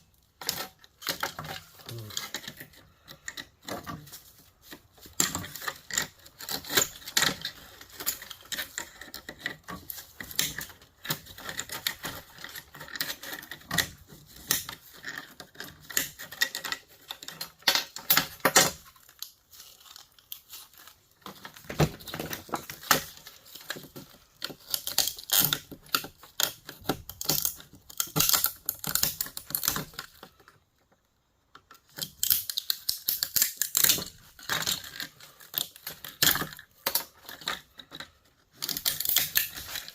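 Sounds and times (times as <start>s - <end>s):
metal parts clicking and clinking: 5.1s - 30.4s, 31.6s - 39.9s.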